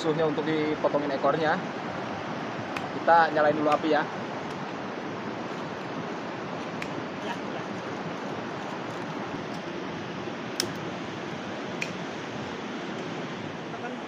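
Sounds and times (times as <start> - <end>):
river stream rushing: 0.0 - 14.0.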